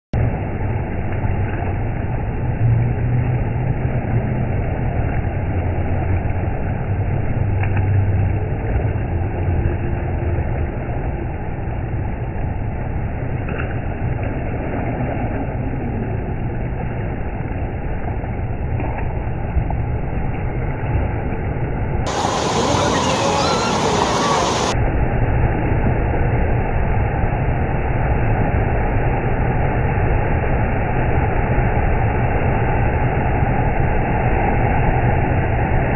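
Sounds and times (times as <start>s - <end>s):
slowed water deep rumble: 0.1s - 35.9s
water and crowd noise: 0.2s - 35.9s.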